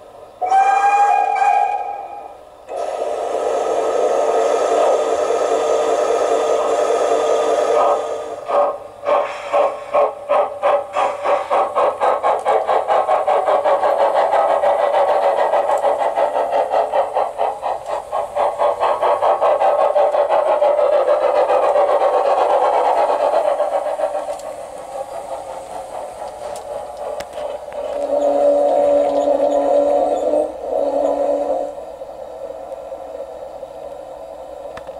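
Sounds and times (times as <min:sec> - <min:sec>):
steam locomotive chuffing: 0:00.0 - 0:34.9.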